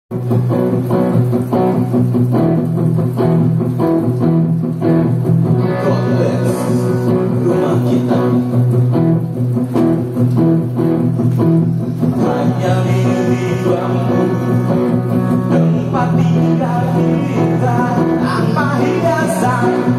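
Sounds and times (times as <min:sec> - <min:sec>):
guitar-led music with bass: 0:00.1 - 0:19.9.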